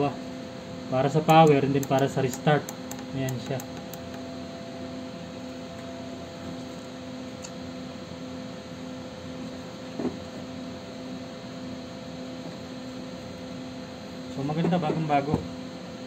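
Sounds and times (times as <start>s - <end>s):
faint electrical drone: 0.0s - 16.0s
room hum: 0.0s - 16.0s.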